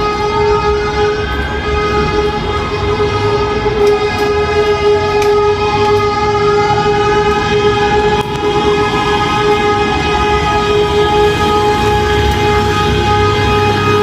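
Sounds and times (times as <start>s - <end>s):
traffic rumble: 0.0s - 14.0s
truck air horn blast: 0.0s - 14.0s.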